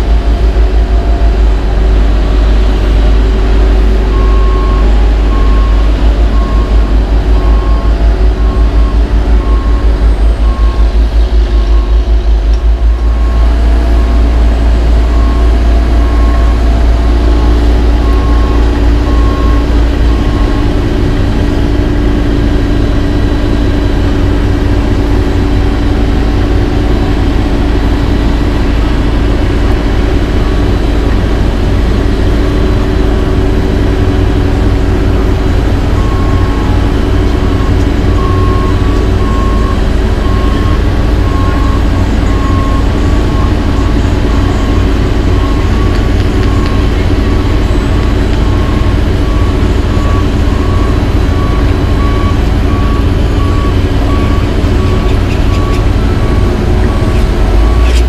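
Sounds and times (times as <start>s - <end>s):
backup alarm beeping: 0.0s - 30.7s, 32.3s - 58.0s
deep rumble: 0.0s - 58.0s
diesel paving equipment running: 0.0s - 58.0s.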